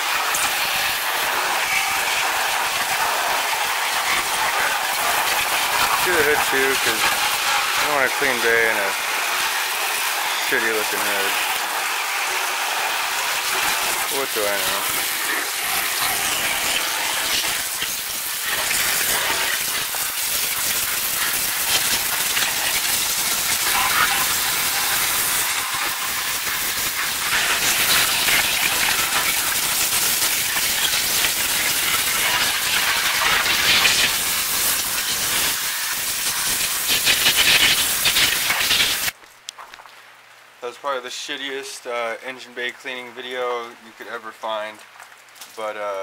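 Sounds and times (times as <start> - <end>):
water spray hissing: 0.0 - 39.2.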